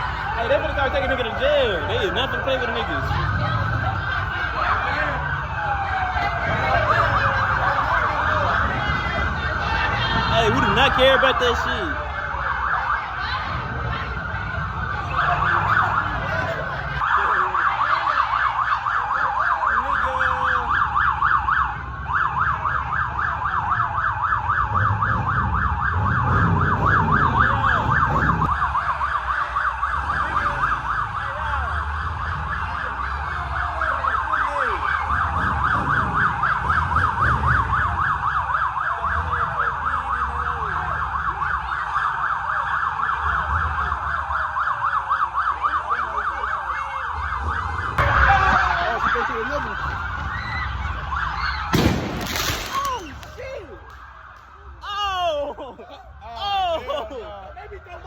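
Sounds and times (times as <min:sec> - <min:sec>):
police siren yelping: 0:00.0 - 0:58.0.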